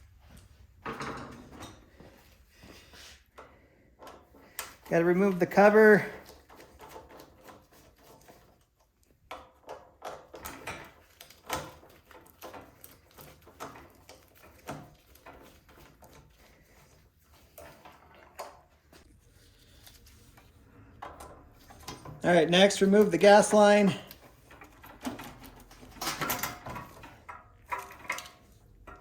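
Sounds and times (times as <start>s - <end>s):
hand tools clicking and knocking: 3.3s - 19.1s, 20.8s - 29.0s.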